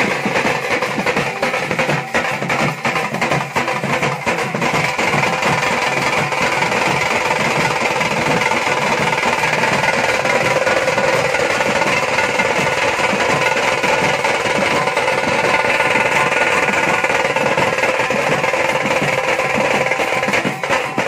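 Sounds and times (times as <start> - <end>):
barrel drums playing fast rhythm: 0.0 - 21.0
hand cymbals: 0.0 - 21.0
side drum beaten with sticks: 0.0 - 21.0.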